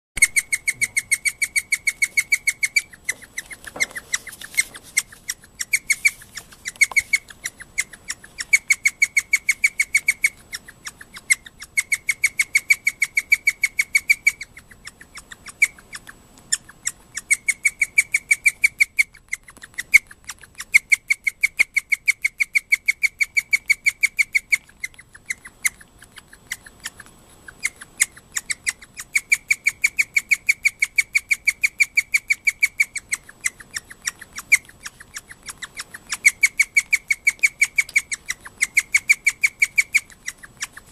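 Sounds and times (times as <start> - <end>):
guinea pig high-pitched calling: 0.2 - 40.9.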